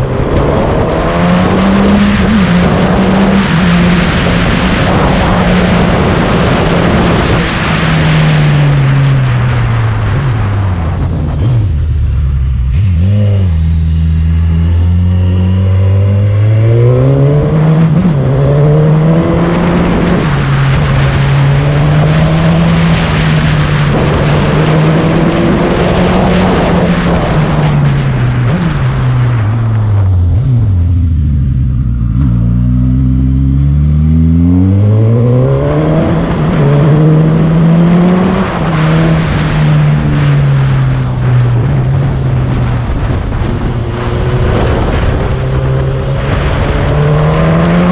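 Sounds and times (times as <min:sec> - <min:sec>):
wind rush: 0:00.0 - 0:13.0, 0:15.2 - 0:47.9
motorcycle engine: 0:00.0 - 0:47.9.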